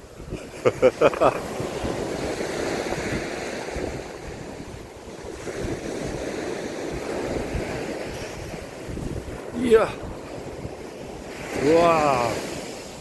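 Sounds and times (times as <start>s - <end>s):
waves breaking on sandy beach: 0.0s - 13.0s
wind buffeting microphone: 0.0s - 13.0s.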